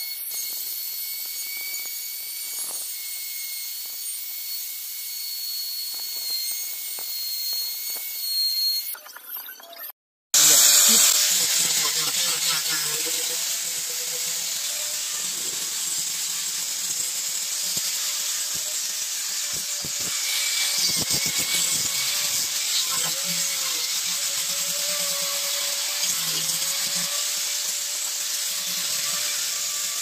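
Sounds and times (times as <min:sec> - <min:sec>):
angle grinder sanding wood: 0:00.0 - 0:08.9, 0:10.4 - 0:30.0.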